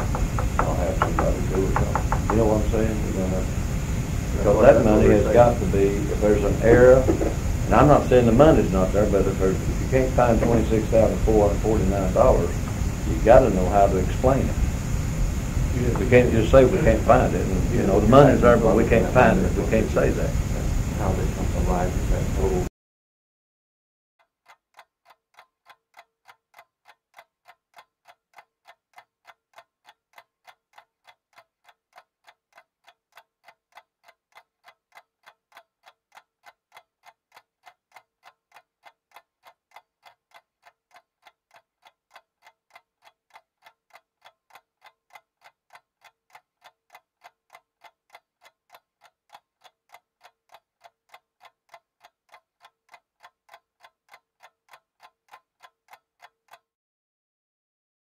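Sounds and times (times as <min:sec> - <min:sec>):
clock ticking: 0:00.0 - 0:22.6, 0:24.2 - 0:56.7.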